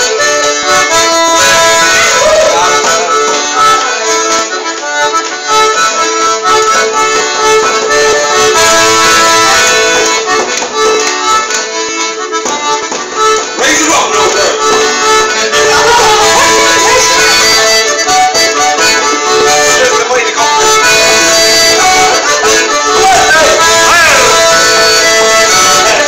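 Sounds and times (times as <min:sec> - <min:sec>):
traditional folk tune on instruments: 0:00.0 - 0:26.0
voices in room: 0:00.0 - 0:26.0.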